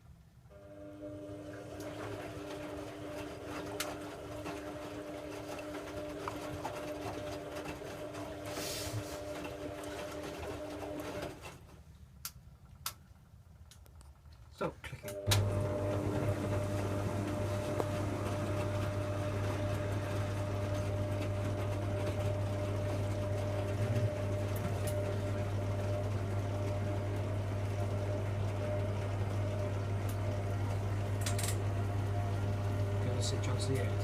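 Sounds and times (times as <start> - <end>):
drain pump humming: 0.5 - 11.7, 15.0 - 34.0.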